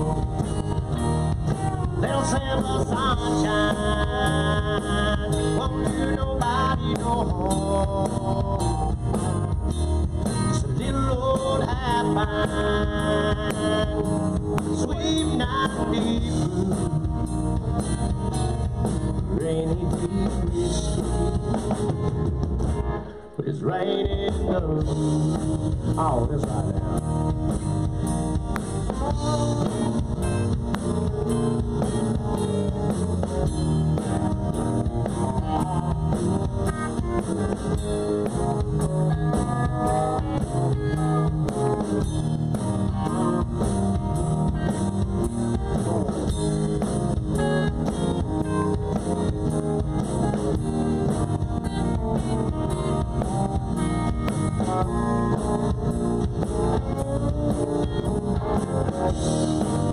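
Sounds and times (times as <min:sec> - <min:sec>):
drum-kit beat: 0:00.0 - 0:22.9, 0:24.0 - 0:59.9
country band playing live: 0:00.0 - 0:59.9
guitar: 0:00.0 - 0:59.9.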